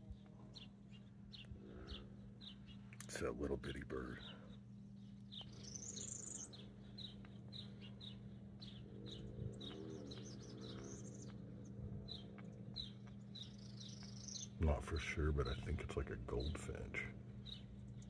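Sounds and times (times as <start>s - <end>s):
songbird chirping: 0.0s - 18.0s
steady low hum: 0.0s - 18.0s.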